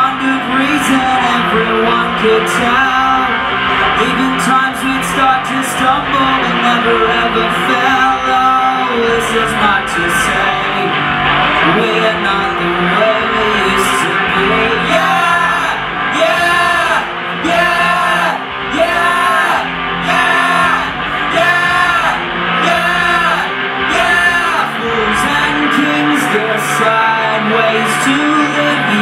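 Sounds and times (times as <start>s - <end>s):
person singing: 0.0s - 29.0s
rock band playing: 0.0s - 29.0s.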